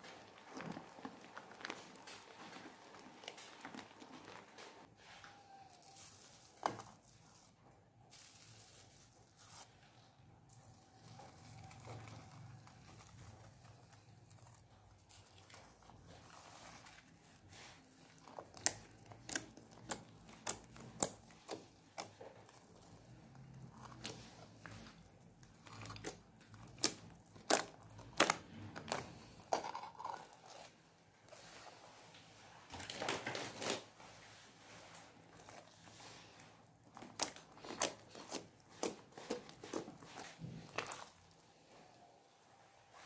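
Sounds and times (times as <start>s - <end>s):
slime squishing: 0.0s - 32.0s, 32.9s - 42.0s.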